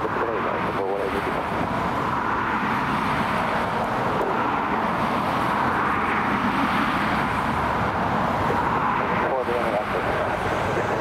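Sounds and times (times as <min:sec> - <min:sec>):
jet engines running low power: 0:00.0 - 0:11.0.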